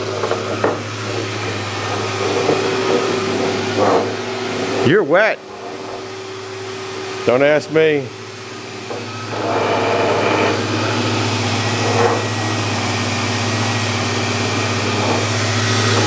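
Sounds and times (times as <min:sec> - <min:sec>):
dust extractor humming: 0:00.0 - 0:16.0.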